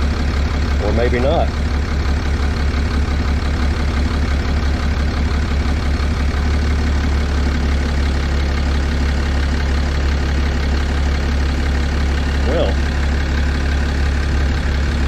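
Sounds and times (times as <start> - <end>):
diesel engine idling unevenly: 0.0 - 15.0.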